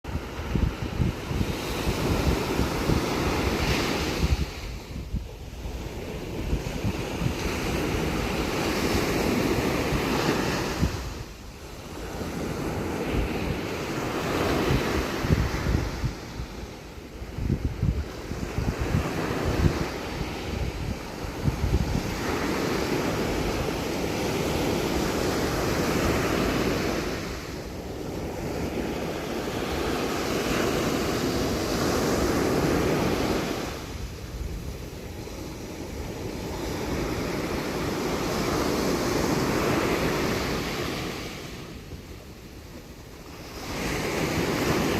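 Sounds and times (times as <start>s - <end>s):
waves breaking on beach: 0.1s - 44.9s
wind buffeting microphone: 0.1s - 44.9s.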